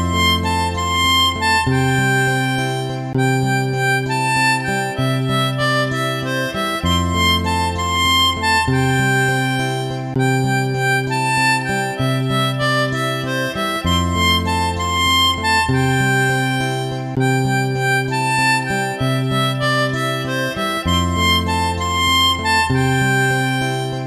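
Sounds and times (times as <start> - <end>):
harmonica-like melody: 0.0 - 24.0.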